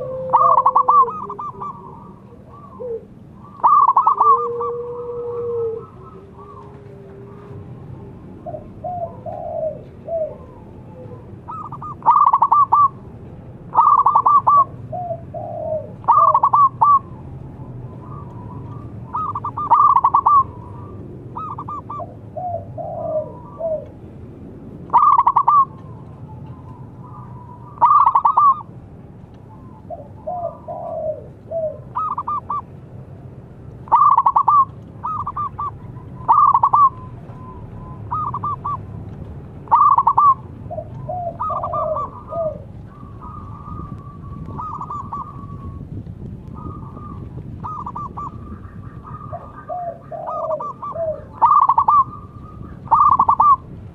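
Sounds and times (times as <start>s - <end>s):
dove cooing: 0.0s - 13.1s, 13.7s - 24.0s, 24.9s - 28.7s, 29.5s - 32.8s, 33.8s - 39.0s, 39.6s - 53.8s.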